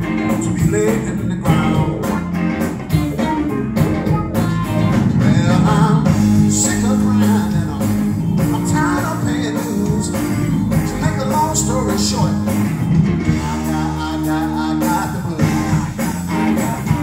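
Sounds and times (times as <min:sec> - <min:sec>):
electric guitar: 0:00.0 - 0:17.0
live blues band playing: 0:00.0 - 0:17.0
steady drum beat: 0:00.0 - 0:17.0.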